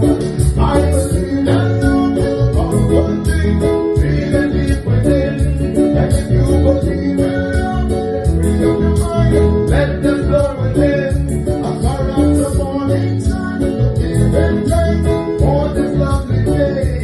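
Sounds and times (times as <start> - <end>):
band playing live: 0.0 - 17.0.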